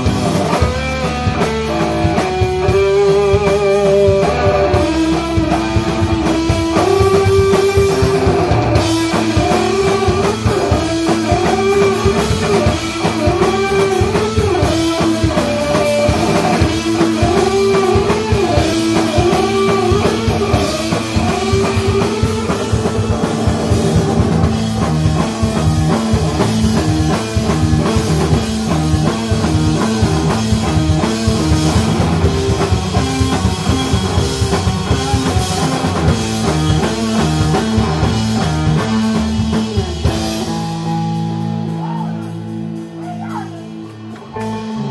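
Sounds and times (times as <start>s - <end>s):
bending electric guitar line: 0.0s - 44.9s
driving drum kit: 0.0s - 44.9s.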